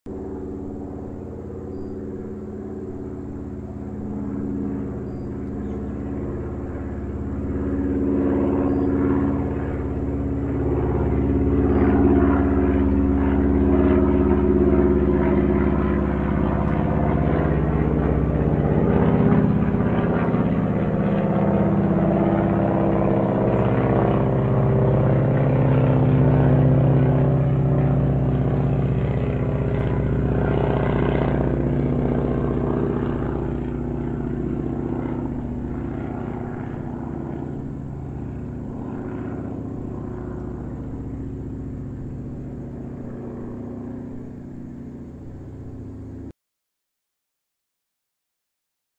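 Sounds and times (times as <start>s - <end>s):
airplane engine drone: 0.1s - 46.3s.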